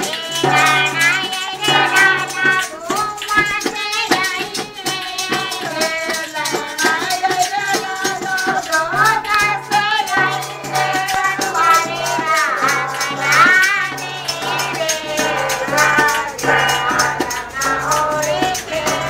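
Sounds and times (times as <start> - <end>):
tambourines shaken and struck: 0.0 - 19.0
women singing: 0.0 - 19.0.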